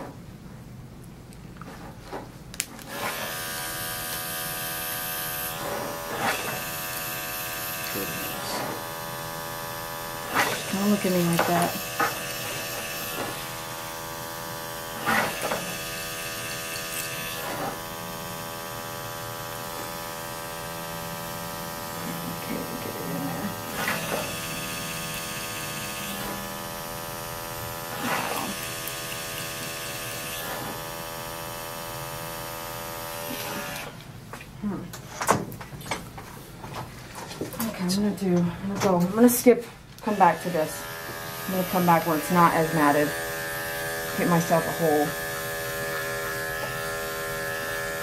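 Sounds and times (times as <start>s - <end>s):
electric clippers humming: 2.8s - 34.0s, 40.0s - 48.0s
clippers rasping through fur: 2.9s - 33.9s, 40.0s - 48.0s.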